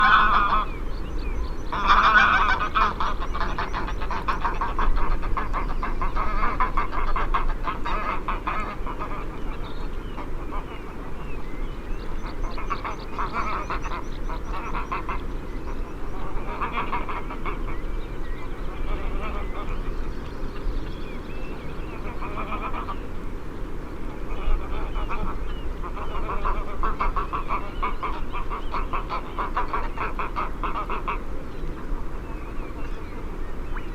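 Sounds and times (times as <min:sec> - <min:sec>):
geese honking and cackling: 0:00.0 - 0:00.9, 0:01.5 - 0:20.0, 0:21.1 - 0:23.2, 0:24.0 - 0:33.9.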